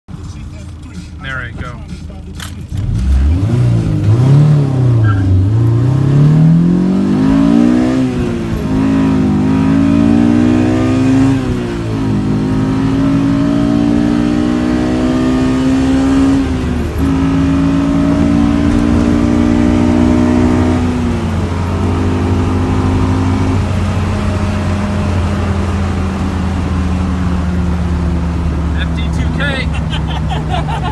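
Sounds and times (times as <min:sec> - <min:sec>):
car engine accelerating: 0:00.1 - 0:30.9.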